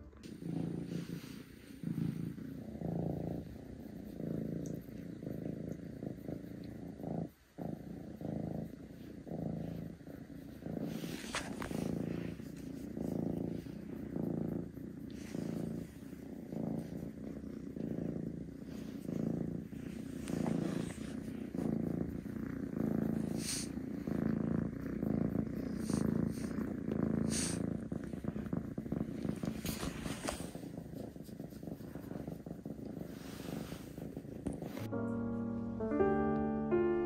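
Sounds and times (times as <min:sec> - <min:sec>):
rustling: 0:00.0 - 0:34.9
kitten purring: 0:00.0 - 0:37.0.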